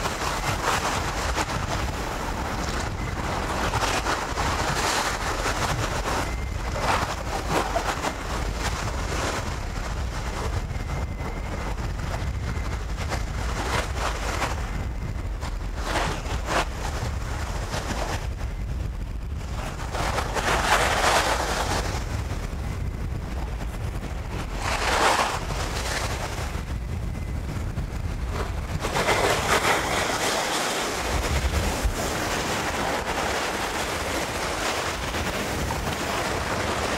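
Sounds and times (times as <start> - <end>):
waves washing onto beach: 0.0 - 18.4, 19.4 - 22.3, 23.2 - 26.7, 28.1 - 36.9
wind rumble on microphone: 0.0 - 36.9.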